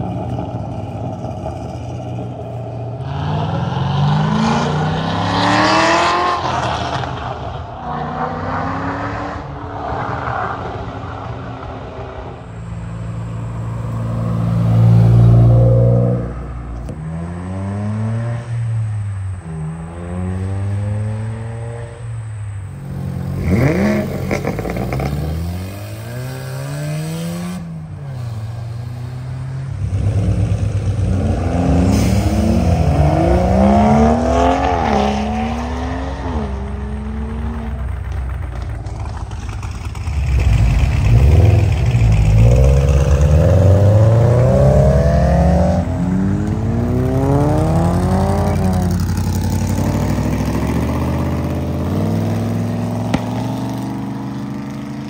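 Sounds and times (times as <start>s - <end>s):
car engines revving and accelerating: 0.0s - 55.0s.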